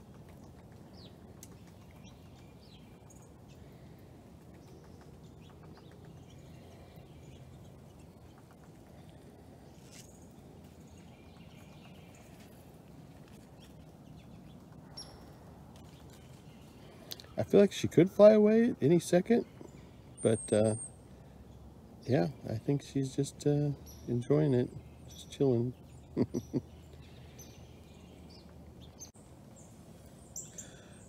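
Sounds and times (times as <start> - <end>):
distant bird chirps: 0.0 - 31.0.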